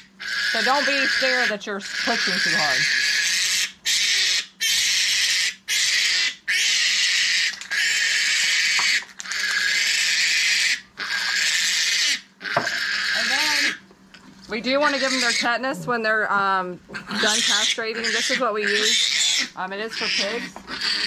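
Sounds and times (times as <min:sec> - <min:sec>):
piglet screaming: 0:00.0 - 0:13.8, 0:14.5 - 0:15.8, 0:16.9 - 0:21.0.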